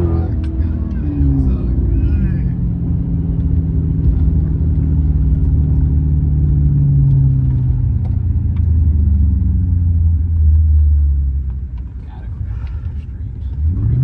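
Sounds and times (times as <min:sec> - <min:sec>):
car engine and exhaust rumbling: 0:00.0 - 0:14.0.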